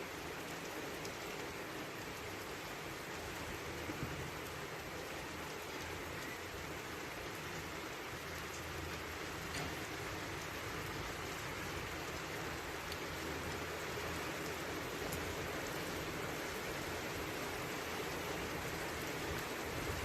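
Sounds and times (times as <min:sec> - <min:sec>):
raindrops pattering on surfaces: 0:00.0 - 0:20.0
steady rain hiss: 0:00.0 - 0:20.0.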